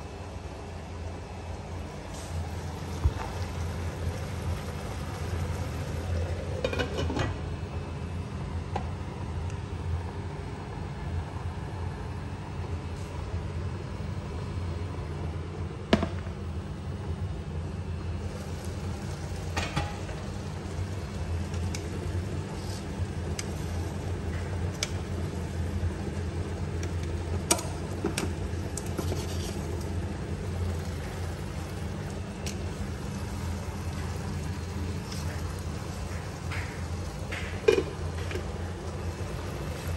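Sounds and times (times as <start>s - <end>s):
induction cooktop humming: 0.0s - 39.9s.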